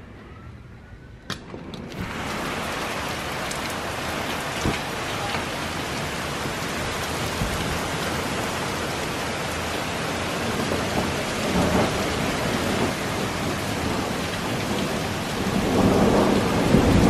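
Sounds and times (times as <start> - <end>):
heavy rain pouring: 1.5 - 17.0.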